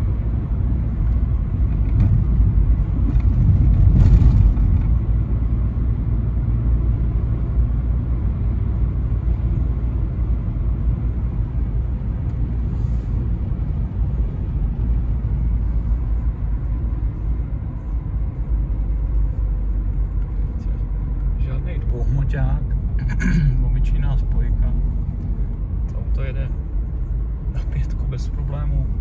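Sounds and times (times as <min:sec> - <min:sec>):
car engine and road noise: 0:00.0 - 0:29.0.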